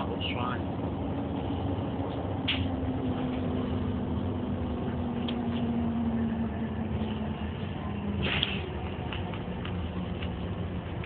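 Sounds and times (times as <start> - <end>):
bus engine and road drone: 0.0 - 11.0
rattles inside bus: 0.0 - 11.0.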